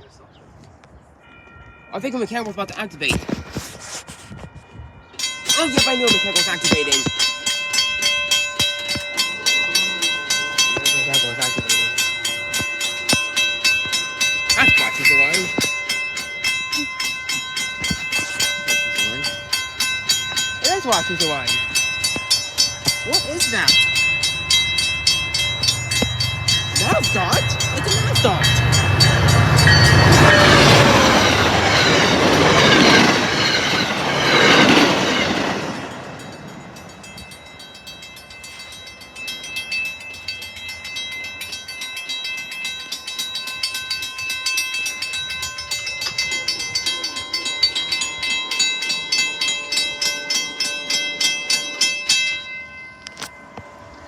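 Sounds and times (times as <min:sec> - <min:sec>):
crossing warning bells ringing: 0:01.2 - 0:54.0
train coaches clattering over rails: 0:05.2 - 0:54.0
diesel locomotive rumbling: 0:05.3 - 0:54.0.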